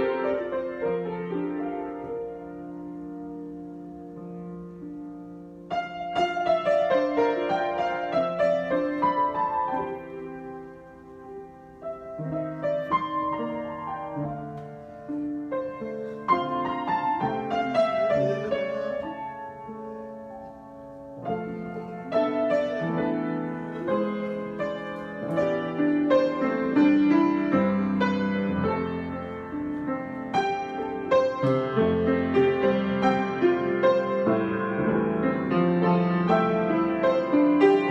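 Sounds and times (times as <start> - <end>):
solo piano improvisation: 0.0 - 37.9.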